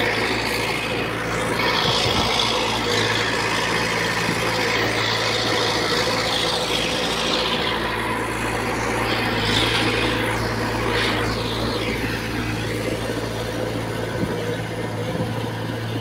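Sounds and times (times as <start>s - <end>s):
bulldozer diesel engine humming: 0.0s - 16.0s.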